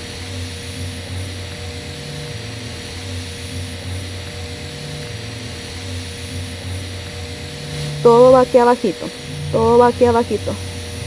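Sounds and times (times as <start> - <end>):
welding arc buzzing hum: 0.0 - 11.0.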